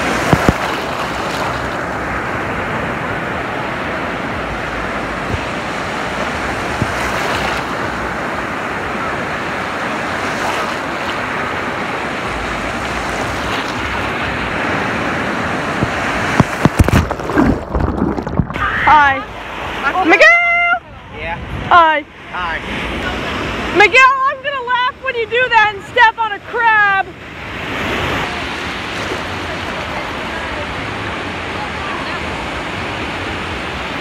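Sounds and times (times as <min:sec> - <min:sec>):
ocean surf washing on beach: 0:00.0 - 0:34.0.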